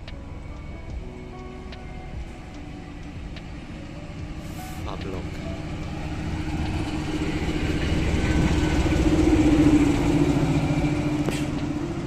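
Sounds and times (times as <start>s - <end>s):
diesel locomotive engine passing: 0.0s - 12.0s.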